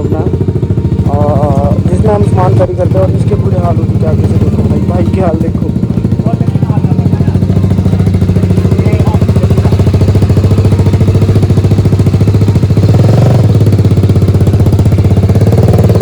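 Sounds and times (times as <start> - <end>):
loud motorcycle engine: 0.0 - 16.0.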